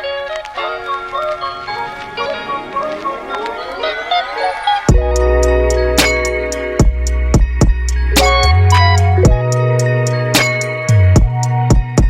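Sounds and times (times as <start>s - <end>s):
instrumental music held notes: 0.0s - 12.0s.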